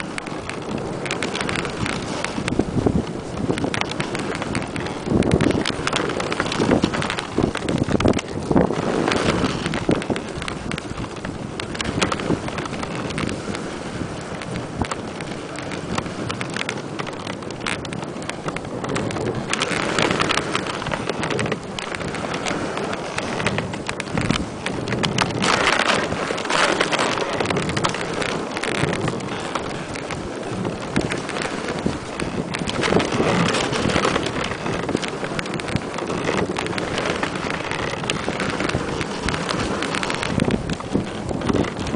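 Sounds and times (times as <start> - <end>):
sled knocking and rattling: 0.0 - 41.9
sled runners scraping snow: 0.0 - 41.9
wind on microphone: 0.0 - 41.9.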